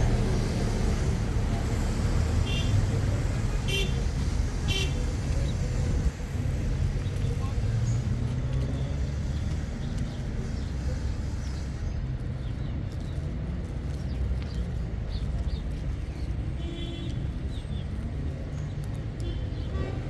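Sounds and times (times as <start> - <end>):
motor vehicle rumbling: 0.0 - 20.0.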